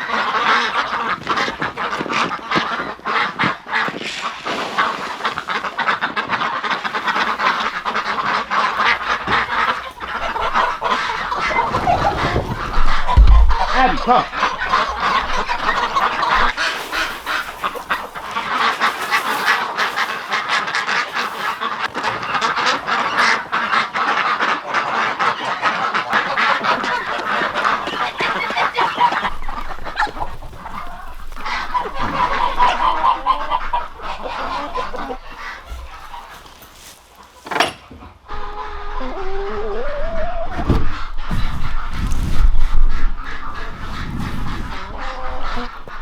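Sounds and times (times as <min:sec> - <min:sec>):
geese honking: 0:00.0 - 0:03.9, 0:05.2 - 0:37.4, 0:38.3 - 0:46.0
ducks quacking: 0:00.0 - 0:37.4, 0:38.3 - 0:46.0.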